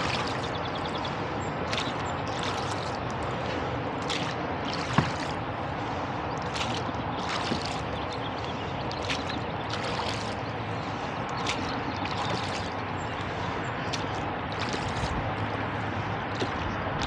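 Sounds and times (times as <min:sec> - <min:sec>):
oars splashing in water: 0:00.0 - 0:17.0
steady rushing water: 0:00.0 - 0:17.0.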